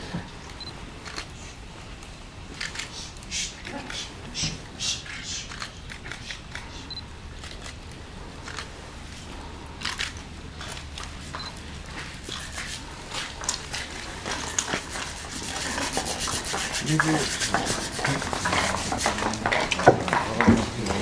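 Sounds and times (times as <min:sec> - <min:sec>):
footsteps scraping and shuffling: 0:01.4 - 0:21.0.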